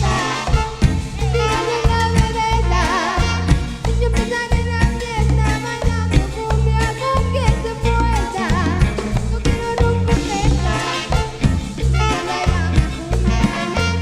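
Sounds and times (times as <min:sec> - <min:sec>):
driving bass line: 0:00.0 - 0:14.0
drum kit: 0:00.0 - 0:14.0
upbeat band music: 0:00.0 - 0:14.0.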